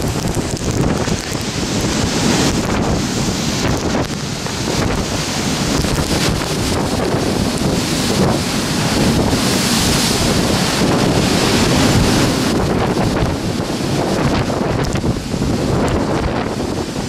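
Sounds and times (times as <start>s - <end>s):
heavy waves surging: 0.0s - 17.0s
strong wind buffeting microphone: 0.0s - 17.0s.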